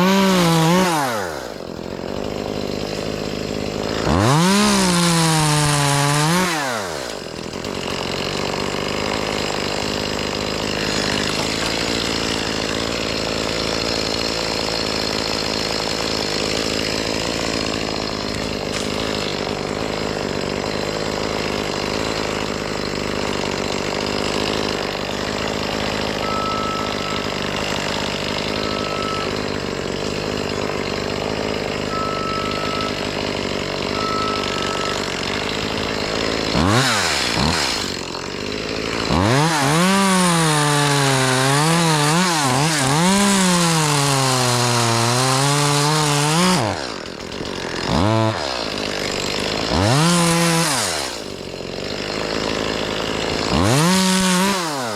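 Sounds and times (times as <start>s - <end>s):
chainsaw cutting through limb: 0.0s - 54.9s
chainsaw idling and revving: 0.0s - 54.9s.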